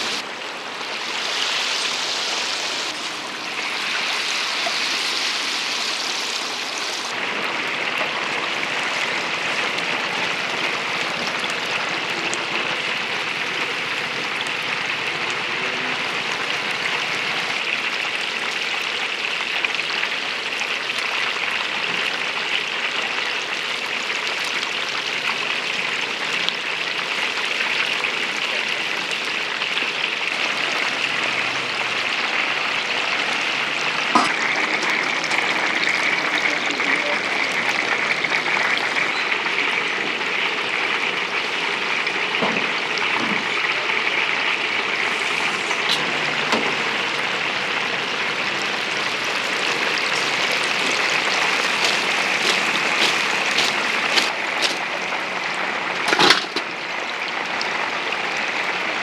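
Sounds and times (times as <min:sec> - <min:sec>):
oil sizzling in deep fryer: 0:00.0 - 0:59.0.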